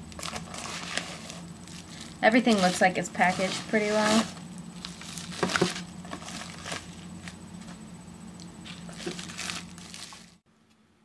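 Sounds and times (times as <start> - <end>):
steady low hum: 0.0 - 11.0
plastic packaging crinkling: 0.1 - 7.4, 8.7 - 10.4.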